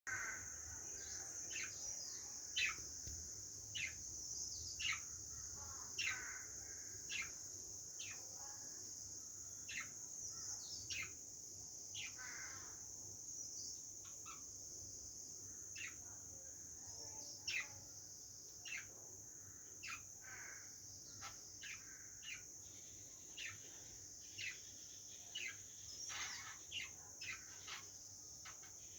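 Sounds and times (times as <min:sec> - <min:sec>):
small birds calling: 0:00.1 - 0:28.9.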